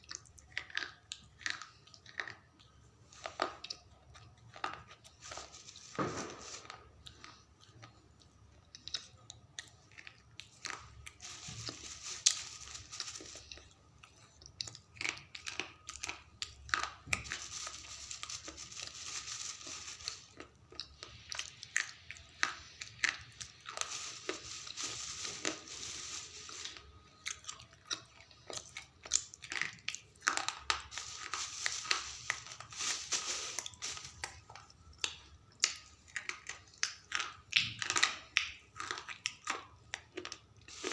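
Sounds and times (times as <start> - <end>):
person chewing crunchy pencil: 0.0 - 5.4, 6.7 - 32.6, 33.6 - 40.9.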